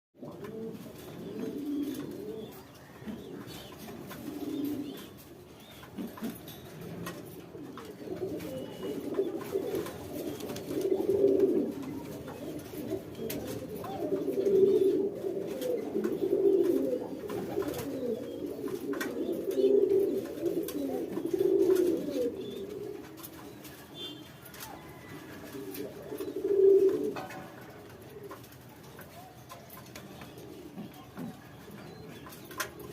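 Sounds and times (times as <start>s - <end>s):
pigeon cooing: 0.2s - 32.9s.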